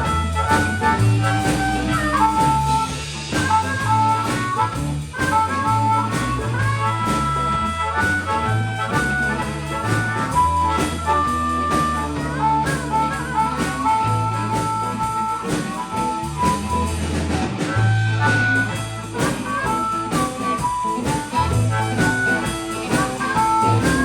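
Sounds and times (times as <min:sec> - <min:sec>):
blues band playing shuffle: 0:00.0 - 0:24.0.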